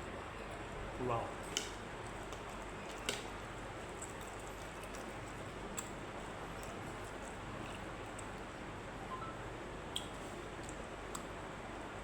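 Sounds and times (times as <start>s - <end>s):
room noise hiss: 0.0s - 12.0s.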